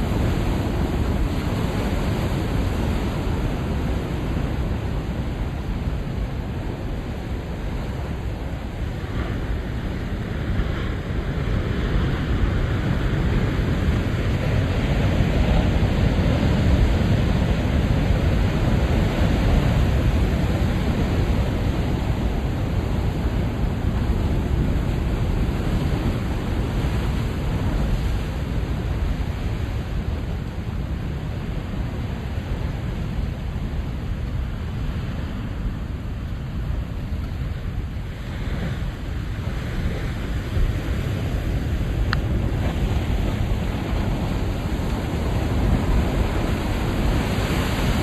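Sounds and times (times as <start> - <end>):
ocean surf breaking: 0.0 - 48.0.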